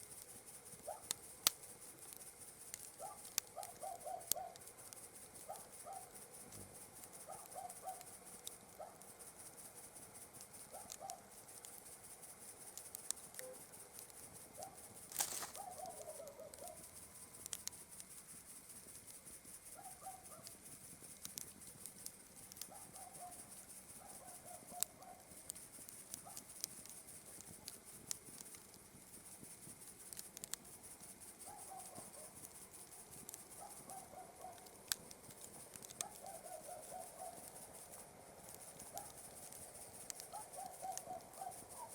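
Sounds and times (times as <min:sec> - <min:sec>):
campfire crackling and popping: 0:00.0 - 0:41.9
night insects chirring: 0:00.0 - 0:41.9.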